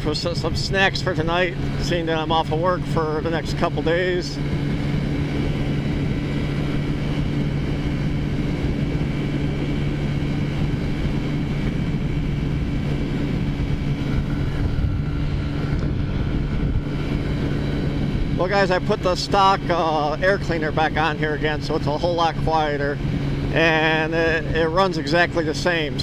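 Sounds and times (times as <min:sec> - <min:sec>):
scooter engine cruising: 0:00.0 - 0:26.0
wind rumble on microphone: 0:00.0 - 0:26.0.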